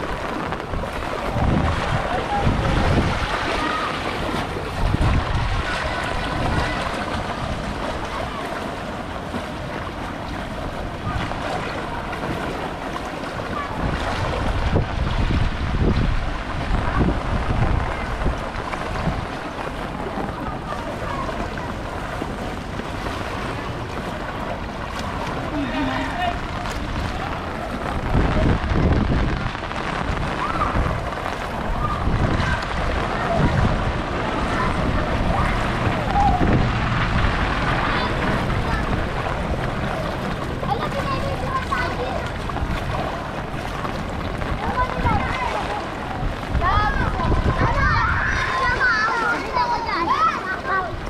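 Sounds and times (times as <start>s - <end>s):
water sloshing around legs: 0.0s - 17.0s, 17.9s - 29.3s, 30.2s - 51.0s
wind rumbling on microphone: 0.0s - 51.0s.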